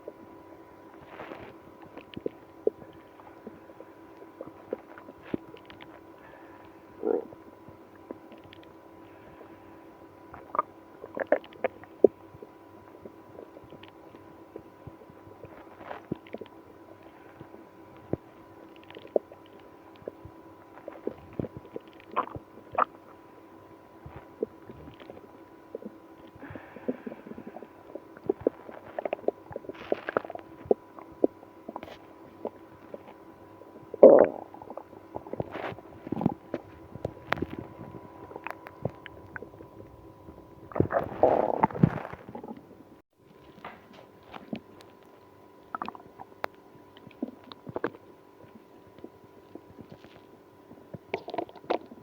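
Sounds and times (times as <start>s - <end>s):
stomach gurgling: 0.0s - 52.0s.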